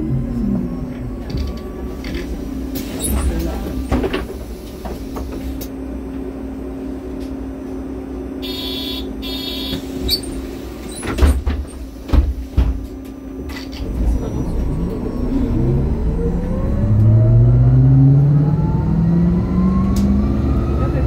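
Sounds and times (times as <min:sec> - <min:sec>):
bus engine hum and rumble: 0:00.0 - 0:21.0.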